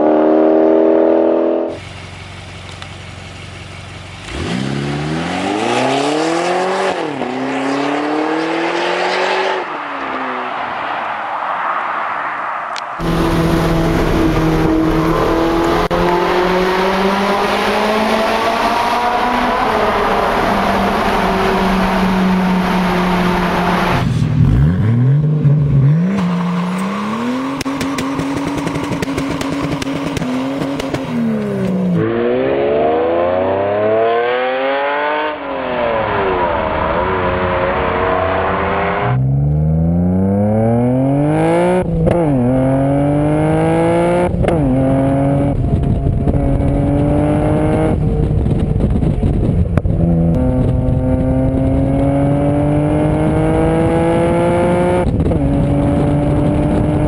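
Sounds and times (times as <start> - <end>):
sports car engine accelerating: 0.0 - 10.5, 13.0 - 57.0
car engine revving: 0.0 - 11.1, 12.7 - 57.0.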